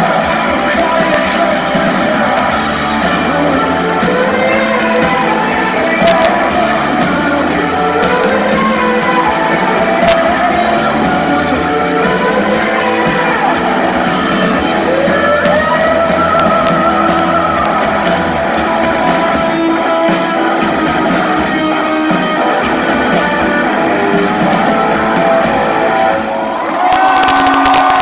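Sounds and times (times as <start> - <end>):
crowd cheering: 0.0 - 28.0
live rock band: 0.0 - 28.0.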